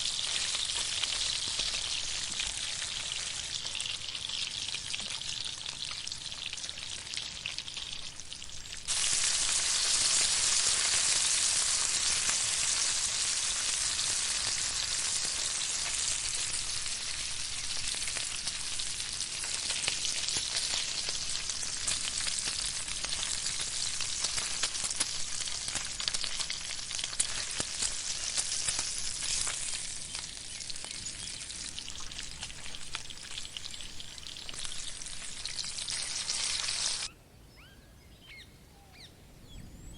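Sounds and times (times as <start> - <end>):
food sizzling in a pan: 0.0 - 37.1.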